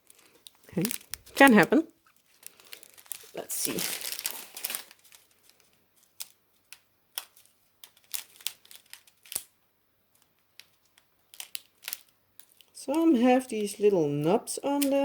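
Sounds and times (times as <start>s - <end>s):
faint plastic crinkle: 0.0s - 15.0s
plastic bags clicking and tapping: 0.0s - 15.0s.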